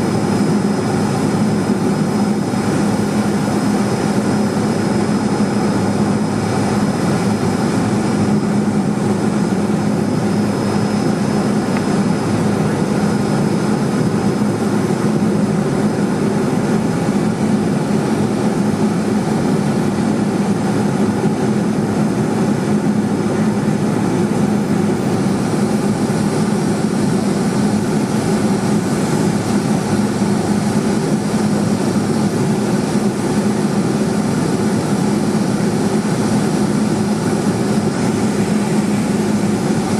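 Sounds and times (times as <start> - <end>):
faint high whine: 0.0 - 39.9
propeller plane engine drone: 0.0 - 39.9.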